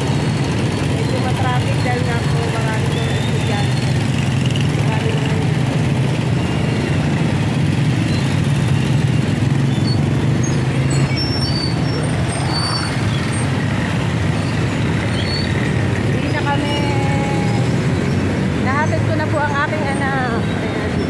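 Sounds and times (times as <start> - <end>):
motorcycle engines droning: 0.0 - 21.0.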